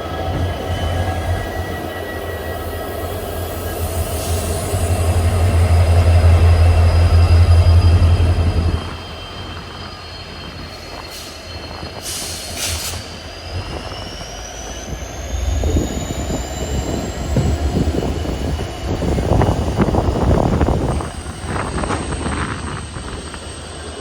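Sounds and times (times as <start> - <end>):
train rumble and rattling: 0.0 - 24.0
train wheels squealing: 0.0 - 24.0.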